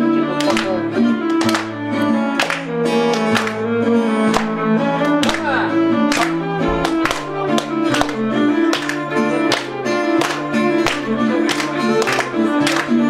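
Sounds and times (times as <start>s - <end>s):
guitar strumming: 0.0s - 13.0s
violin notes: 0.0s - 13.0s.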